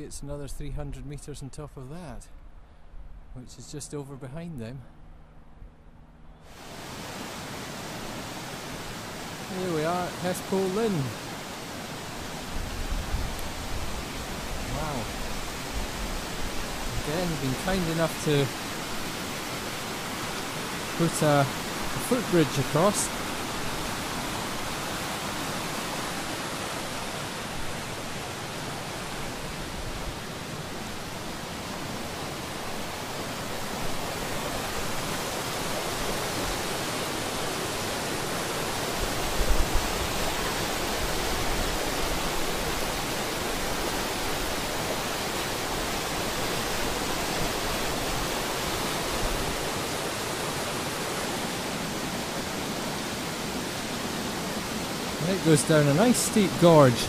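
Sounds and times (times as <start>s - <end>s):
water rushing over rocks: 6.5s - 57.0s.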